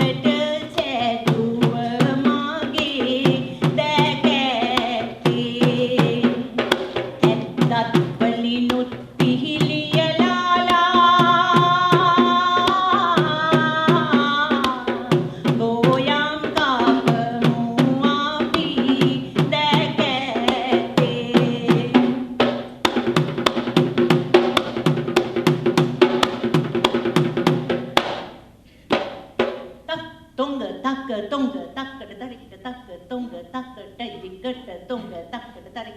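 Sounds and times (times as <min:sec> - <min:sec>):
drums in a fast rhythm: 0:00.0 - 0:29.9.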